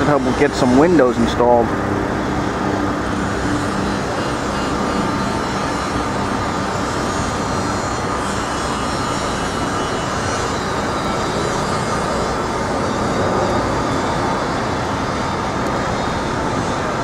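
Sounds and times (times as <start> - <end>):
engine drone: 0.0 - 17.0
faint hum: 0.0 - 17.0
street noise: 0.0 - 17.0.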